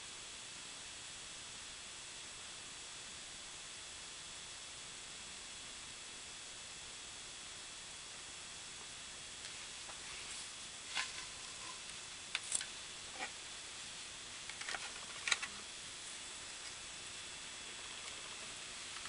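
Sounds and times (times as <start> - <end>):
faint high whine: 0.0 - 19.0
steady hiss: 0.0 - 19.0.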